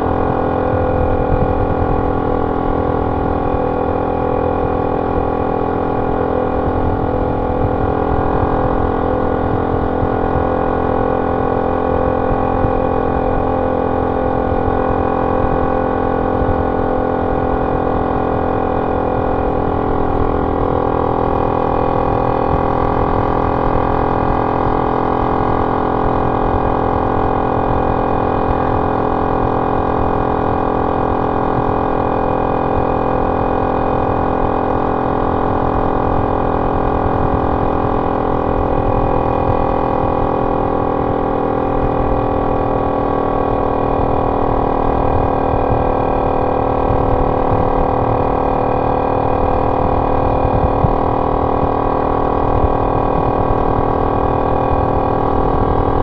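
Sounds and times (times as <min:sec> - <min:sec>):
motorcycle engine droning: 0:00.0 - 0:56.0.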